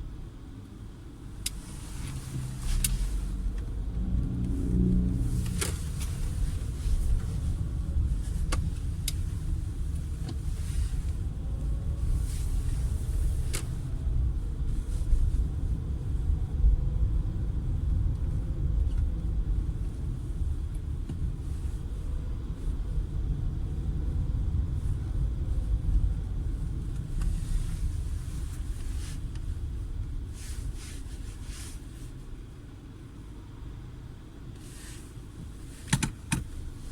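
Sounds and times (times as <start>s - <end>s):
car road rumble: 0.0s - 36.9s.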